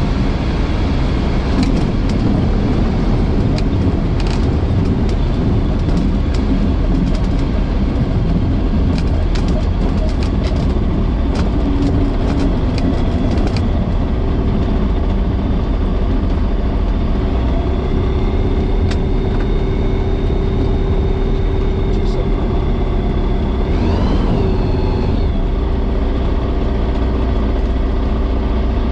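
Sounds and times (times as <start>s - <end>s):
light aircraft engine idling: 0.0s - 28.9s.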